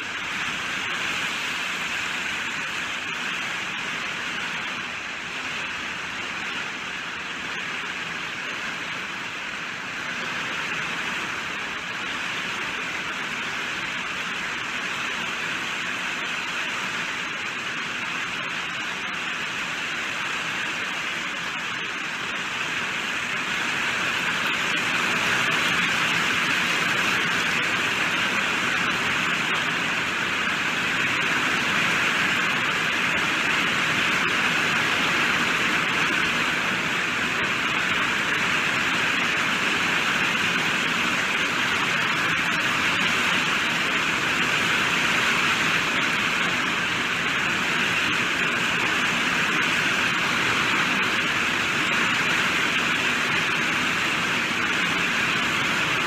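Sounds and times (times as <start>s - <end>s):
heavy rainfall: 0.0s - 56.0s.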